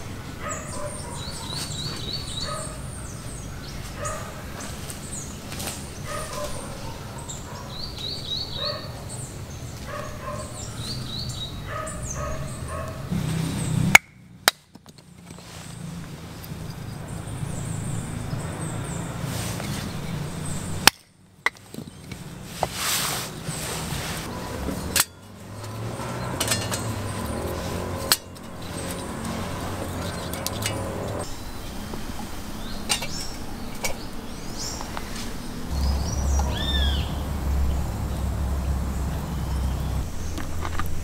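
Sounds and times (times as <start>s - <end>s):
bird chirping: 0.0s - 14.3s, 15.0s - 20.9s, 23.3s - 41.0s.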